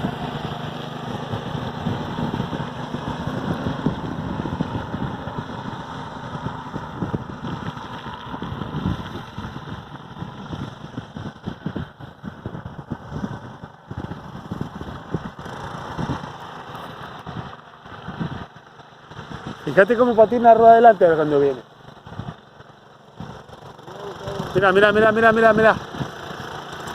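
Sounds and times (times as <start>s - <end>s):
motorcycle engine running unevenly: 0.0s - 26.9s.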